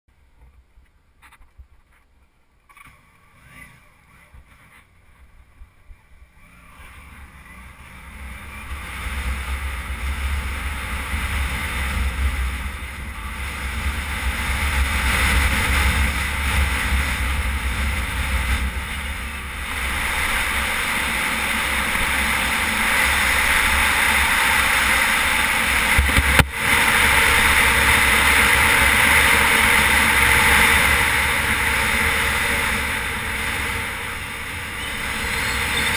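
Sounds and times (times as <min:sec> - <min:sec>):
motorcycle engine: 0:02.6 - 0:35.9
wind buffeting microphone: 0:04.2 - 0:35.9.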